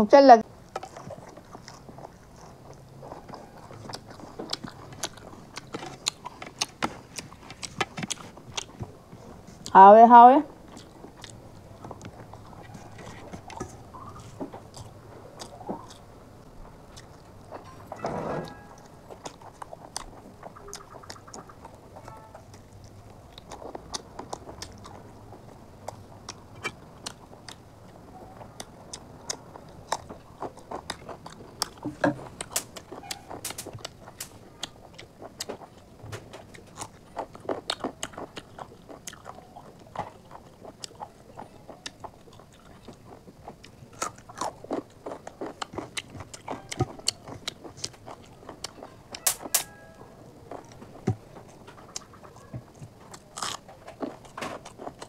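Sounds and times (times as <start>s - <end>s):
person chewing food: 0.4s - 9.8s, 10.5s - 55.0s.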